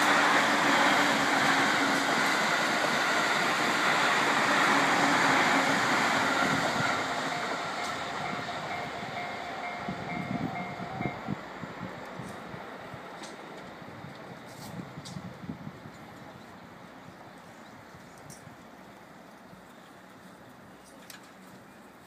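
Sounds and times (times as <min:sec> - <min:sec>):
train running past: 0:00.0 - 0:22.0.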